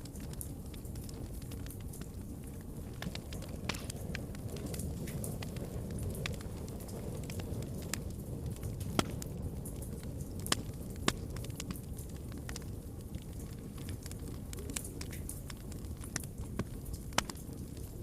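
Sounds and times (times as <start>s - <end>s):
fire crackles and pops: 0.0s - 18.0s
fire flames rumbling: 0.0s - 18.0s.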